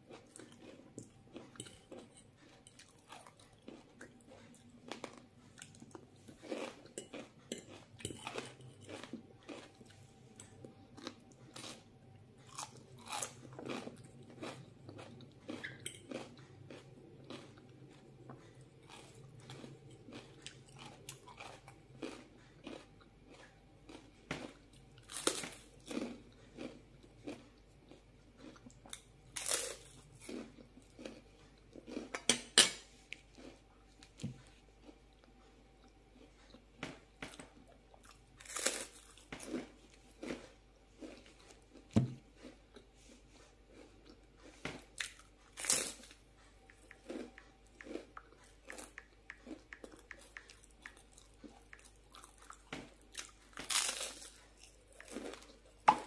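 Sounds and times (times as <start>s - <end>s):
chewing crispy rice cake: 0.0s - 56.0s.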